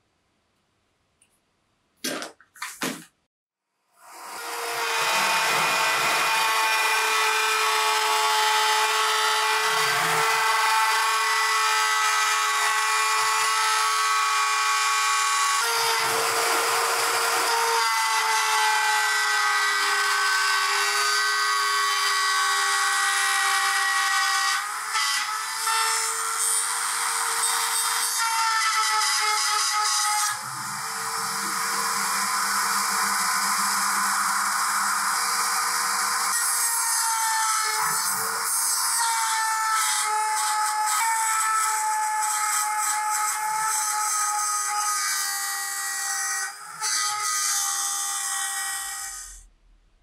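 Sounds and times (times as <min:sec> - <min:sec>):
router whining: 0:04.0 - 0:49.4
router cutting wood: 0:04.0 - 0:49.5.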